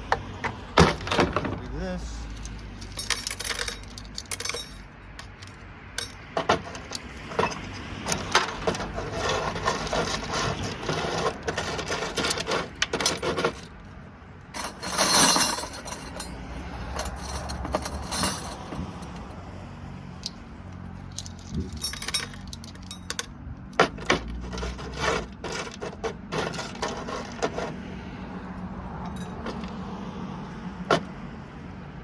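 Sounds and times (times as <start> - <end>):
small metal parts clinking: 0.4 - 19.2, 20.2 - 27.7.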